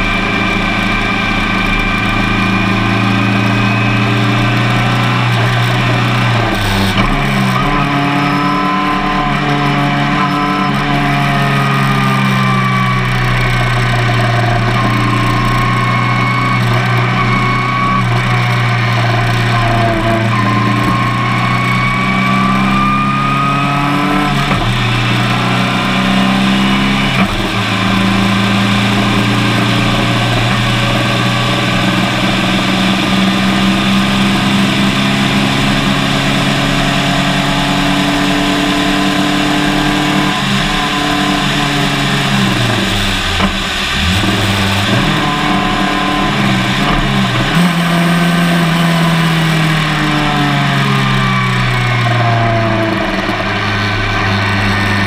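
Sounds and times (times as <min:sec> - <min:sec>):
race car engine whining: 0:00.0 - 0:55.0.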